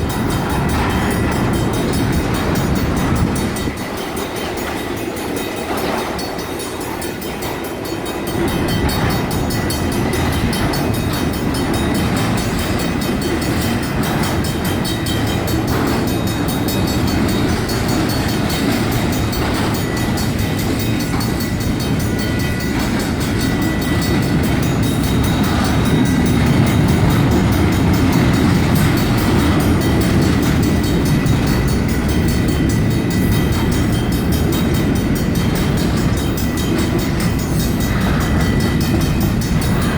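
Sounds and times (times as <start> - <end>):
crossing bells ringing: 0.0 - 39.9
freight train wheels rumbling: 0.0 - 39.9.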